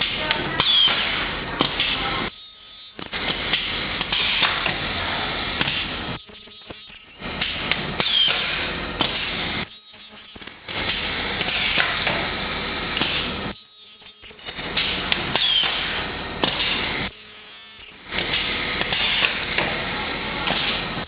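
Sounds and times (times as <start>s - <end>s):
welding machine clatter and knocks: 0.0s - 2.2s, 2.8s - 5.0s, 5.6s - 17.2s, 17.8s - 21.0s.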